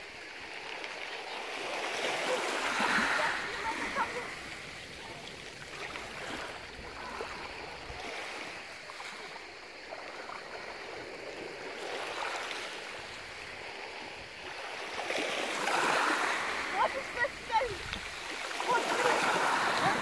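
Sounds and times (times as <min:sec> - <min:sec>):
small waves lapping on pebbles: 0:00.0 - 0:20.0.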